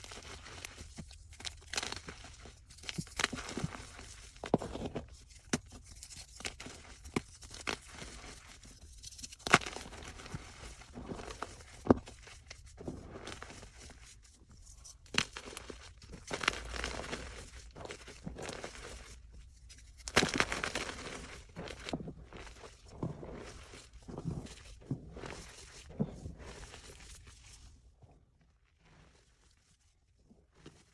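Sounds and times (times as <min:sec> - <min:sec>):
chalk being crushed: 0:00.0 - 0:27.4.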